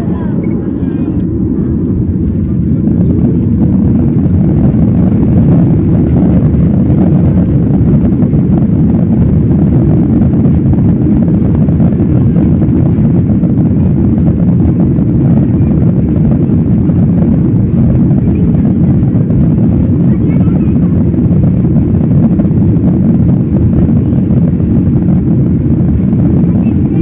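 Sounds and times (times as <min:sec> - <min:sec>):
airplane engines taking off: 0:00.0 - 0:27.0.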